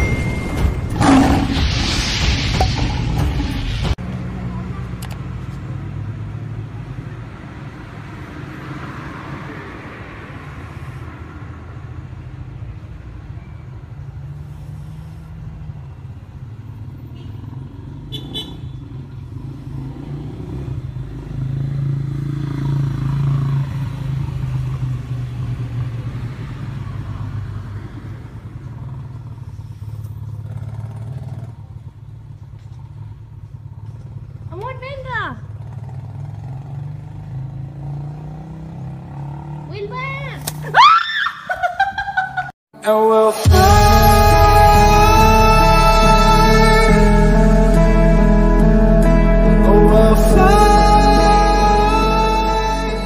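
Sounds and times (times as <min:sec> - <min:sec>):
motor traffic rumble: 0:00.0 - 0:40.9, 0:43.4 - 0:53.0.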